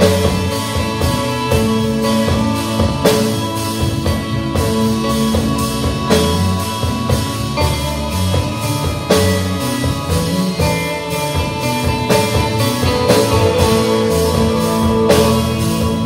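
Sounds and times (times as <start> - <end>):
bass guitar: 0.0 - 16.0
drum kit steady beat: 0.0 - 16.0
electric guitar sustained notes: 0.0 - 16.0.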